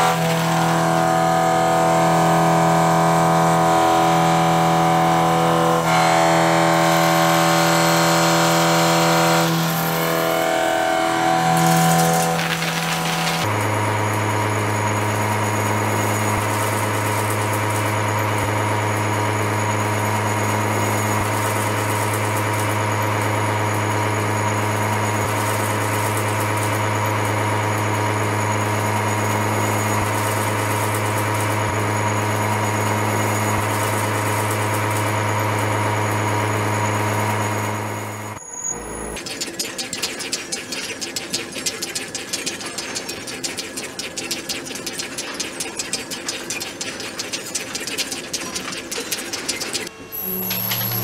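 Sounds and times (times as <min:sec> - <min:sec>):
milling machine hum: 0:00.0 - 0:51.0.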